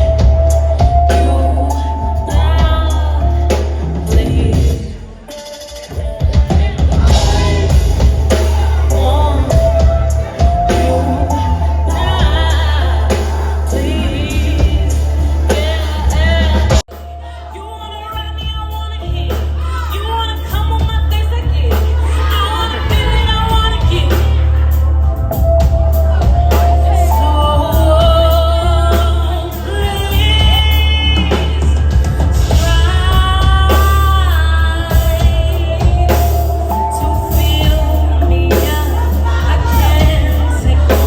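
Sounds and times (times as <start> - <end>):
lead vocalist singing: 0.0 - 41.0
live band music: 0.0 - 41.0.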